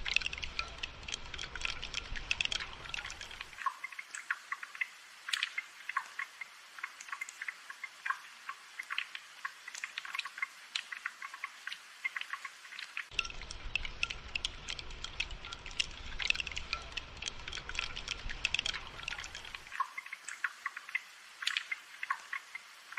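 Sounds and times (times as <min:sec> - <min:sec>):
raindrops pattering: 0:00.0 - 0:22.9
soft rain hiss: 0:00.0 - 0:22.9.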